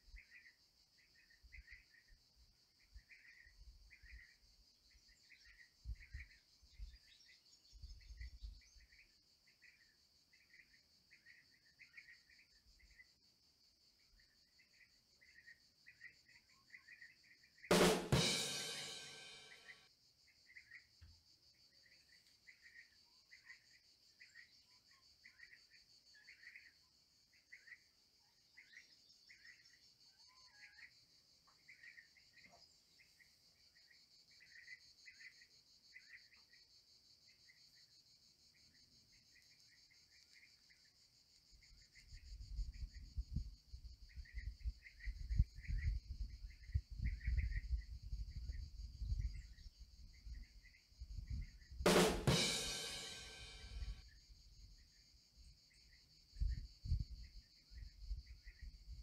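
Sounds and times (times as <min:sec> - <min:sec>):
insect chorus trilling: 0:00.0 - 0:51.8, 0:52.4 - 0:59.0.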